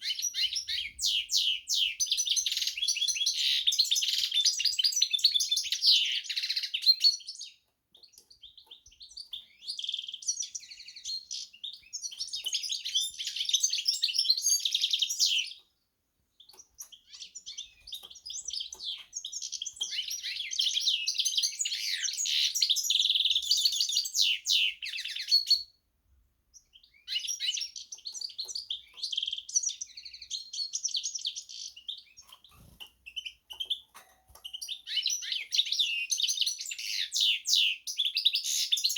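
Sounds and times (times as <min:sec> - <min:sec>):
songbird singing: 0:00.0 - 0:25.8, 0:26.5 - 0:38.9.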